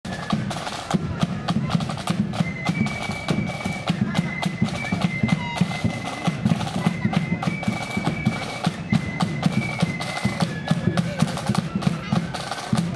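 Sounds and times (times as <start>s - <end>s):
flutes playing held notes: 0.1s - 12.9s.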